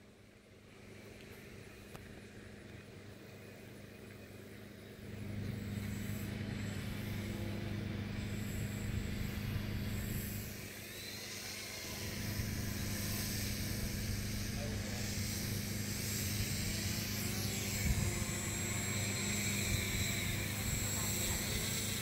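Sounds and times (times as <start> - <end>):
electric motor and propeller hum: 0.0 - 22.0.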